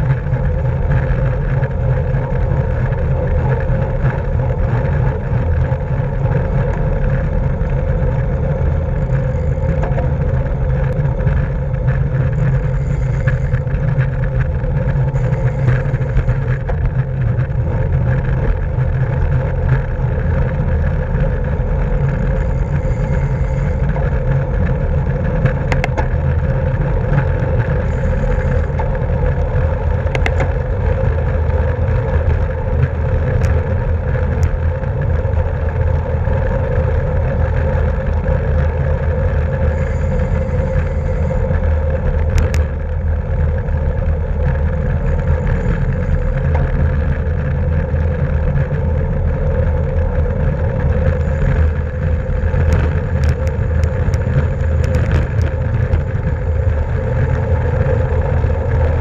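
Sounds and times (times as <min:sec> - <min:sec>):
bicycle road hum: 0:00.0 - 0:59.0
wind rumble over microphone: 0:00.0 - 0:59.0.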